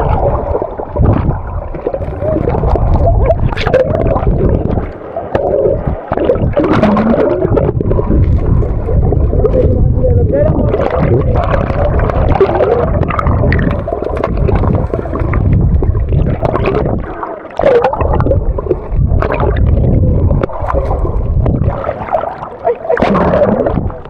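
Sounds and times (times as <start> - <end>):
heavy low rumble: 0.0 - 17.1, 17.7 - 22.0.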